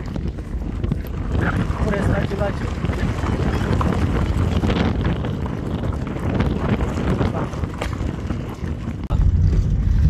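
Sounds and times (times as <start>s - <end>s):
car engine and tyre rumble: 0.0s - 10.0s
gravel crackling under wheels: 0.0s - 10.0s.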